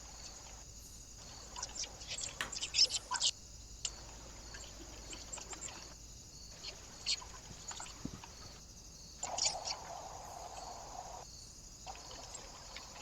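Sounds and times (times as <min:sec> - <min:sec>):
small birds chirping: 0:00.0 - 0:13.0
steady hiss: 0:00.0 - 0:13.0.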